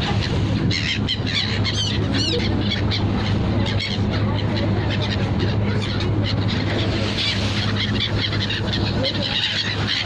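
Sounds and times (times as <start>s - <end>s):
ferry engine humming: 0.0s - 10.0s
seagulls calling: 0.0s - 10.0s.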